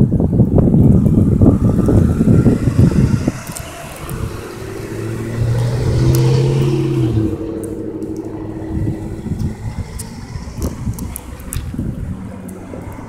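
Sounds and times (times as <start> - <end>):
passing vehicle engine hum: 0.0 - 13.0.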